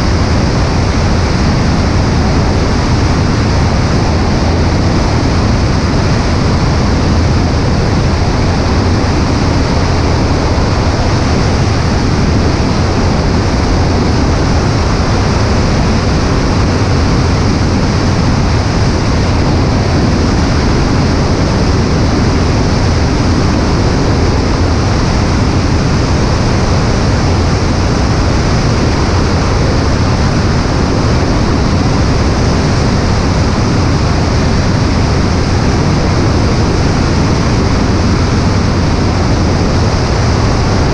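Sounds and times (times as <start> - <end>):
engine and propeller drone: 0.0 - 40.9
rush of airflow: 0.0 - 40.9.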